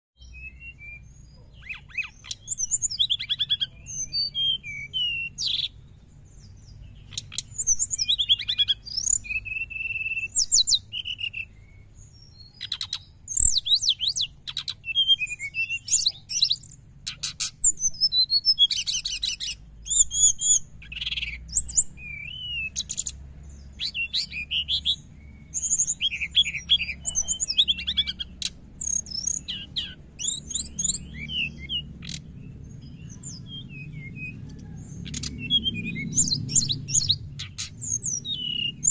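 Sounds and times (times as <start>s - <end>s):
flycatcher twittering song: 0.2s - 38.9s.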